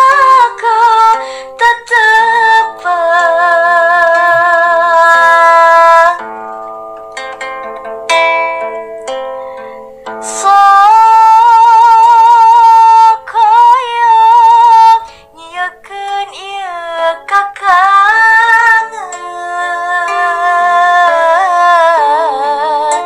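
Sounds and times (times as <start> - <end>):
woman singing: 0.0 - 6.2, 10.2 - 23.0
instrumental backing: 0.0 - 23.0.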